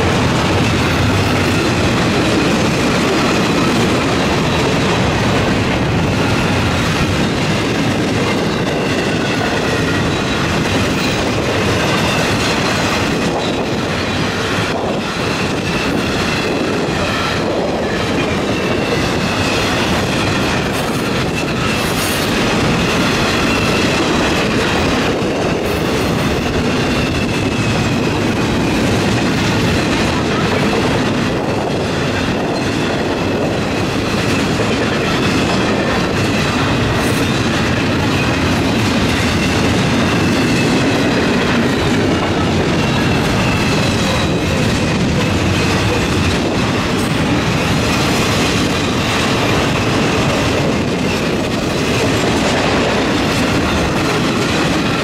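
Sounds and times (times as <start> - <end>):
steel wheels running on rail: 0.0 - 55.0.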